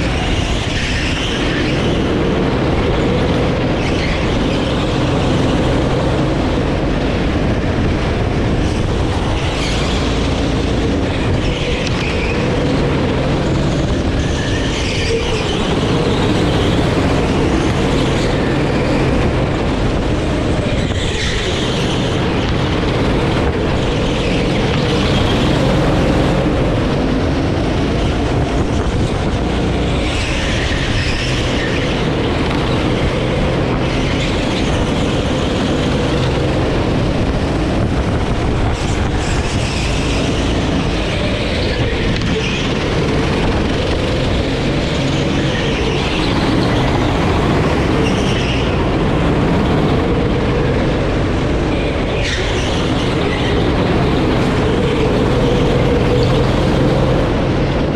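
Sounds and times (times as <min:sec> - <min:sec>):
kart engine running hard: 0:00.0 - 0:57.9.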